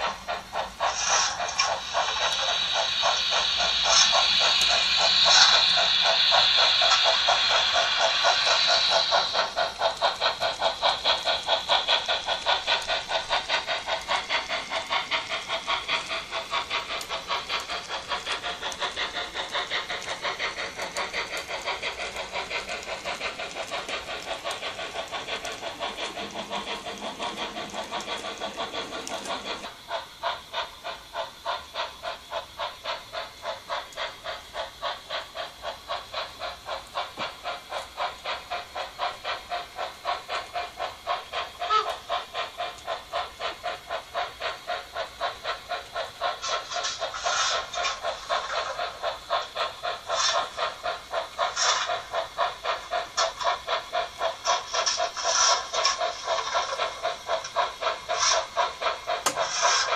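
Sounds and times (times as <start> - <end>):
steam chuffs from small speaker: 0.0 - 59.9.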